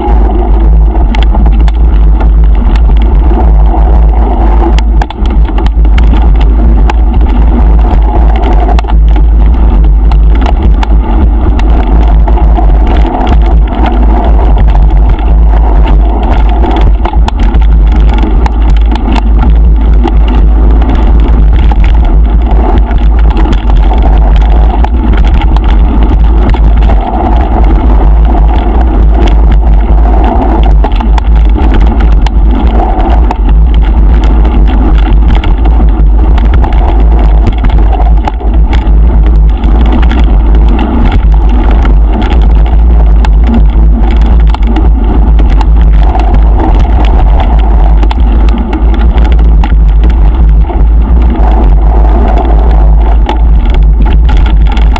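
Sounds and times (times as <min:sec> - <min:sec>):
wind rumble on microphone: 0:00.0 - 0:54.9.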